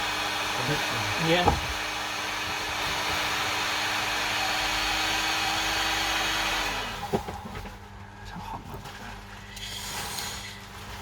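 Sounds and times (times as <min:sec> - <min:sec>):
hot-air blower running: 0:00.0 - 0:11.0.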